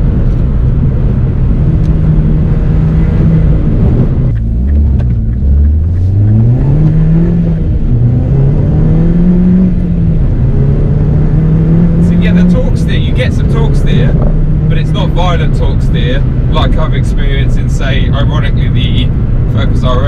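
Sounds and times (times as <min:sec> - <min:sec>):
car engine under hard driving: 0:00.0 - 0:20.0.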